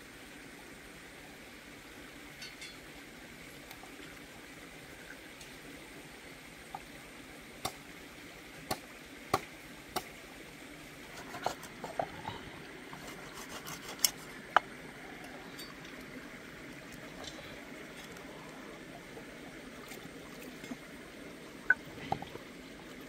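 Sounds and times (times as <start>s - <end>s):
stream hissing: 0.0s - 23.0s.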